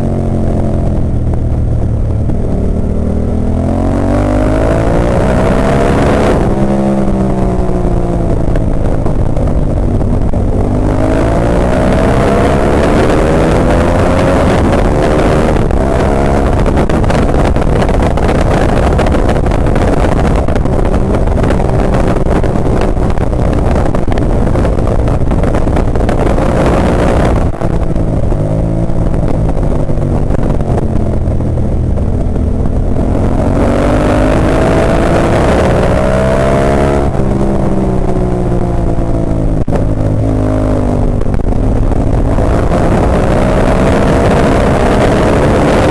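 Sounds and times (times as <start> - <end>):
motorcycle engine at racing speed: 0.0 - 45.9
rush of wind noise: 0.0 - 45.9.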